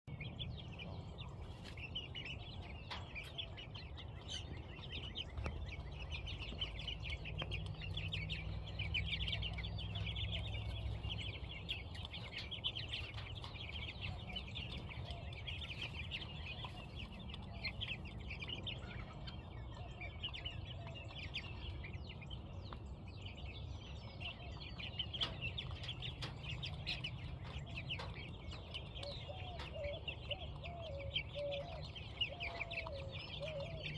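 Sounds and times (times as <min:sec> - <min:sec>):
chicks peeping and chirping: 0:00.1 - 0:33.9.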